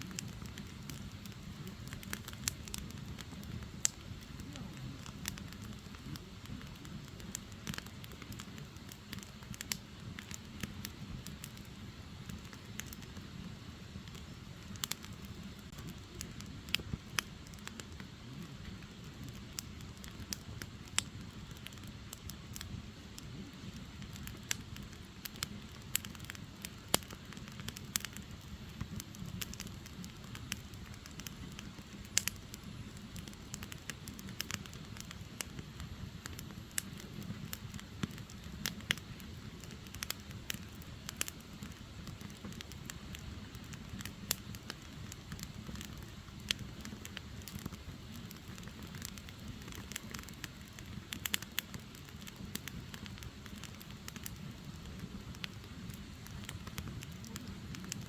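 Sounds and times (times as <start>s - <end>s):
firewood crackling and popping: 0.0s - 58.0s
low rush of fire: 0.0s - 58.0s.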